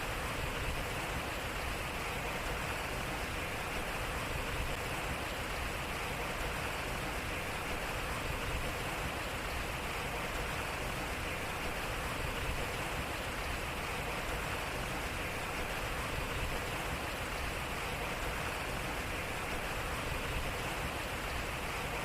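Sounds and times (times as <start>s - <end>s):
water splashing at waterwheel: 0.0s - 22.0s.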